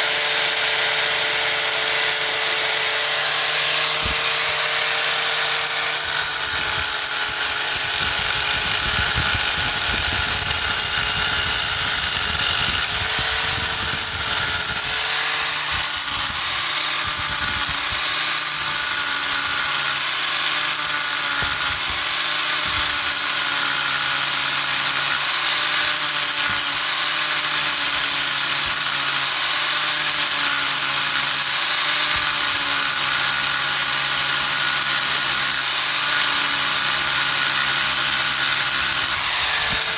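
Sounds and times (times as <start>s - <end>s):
electric power tool running: 0.0s - 39.9s.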